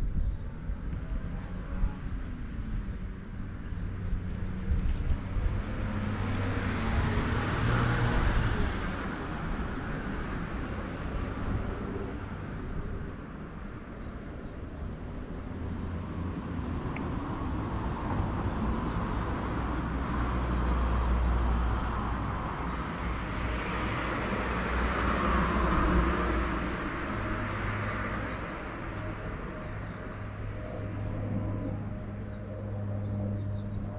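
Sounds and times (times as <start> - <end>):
vehicles passing with tyre hiss: 3.3 - 31.6.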